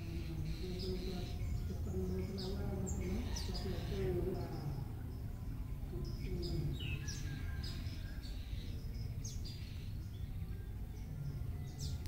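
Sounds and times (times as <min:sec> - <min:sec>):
birds chirping and singing: 0:00.0 - 0:12.0
low background noise: 0:00.0 - 0:12.0.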